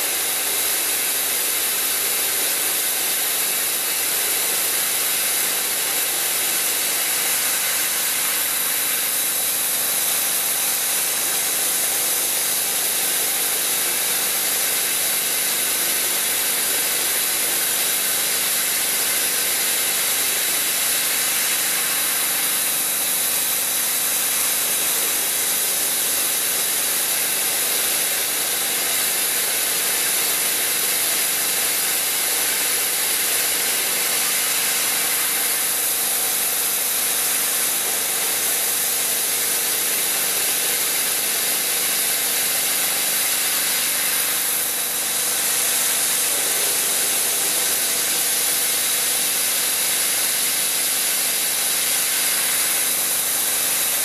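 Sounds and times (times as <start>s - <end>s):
lathe cutting hiss: 0.0s - 54.0s.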